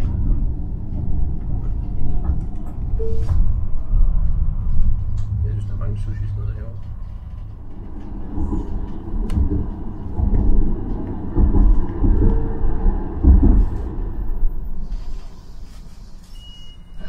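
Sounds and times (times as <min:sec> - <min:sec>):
tram wheels rumbling on rail: 0:00.0 - 0:17.0.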